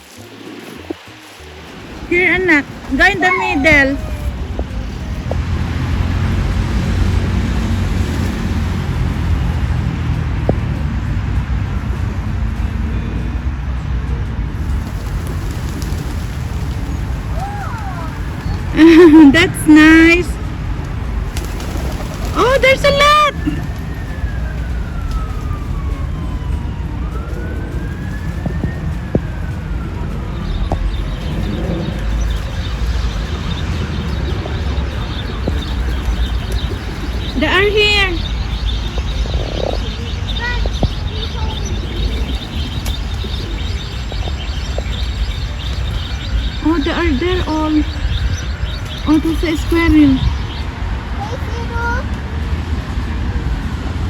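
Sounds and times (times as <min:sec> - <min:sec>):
emergency siren wailing: 0:00.0 - 0:11.0, 0:15.8 - 0:21.3, 0:22.1 - 0:51.2.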